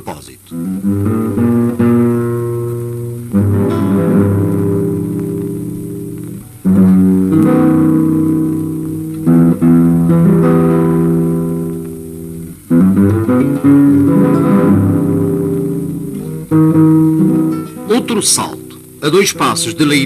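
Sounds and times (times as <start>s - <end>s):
plucked guitar chords: 0.0s - 20.0s.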